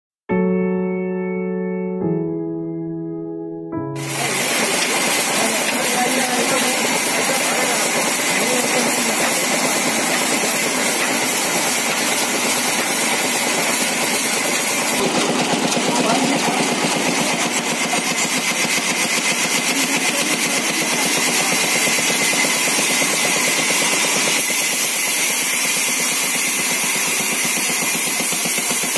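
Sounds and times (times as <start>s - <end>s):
band saw cutting timber: 4.0s - 28.9s.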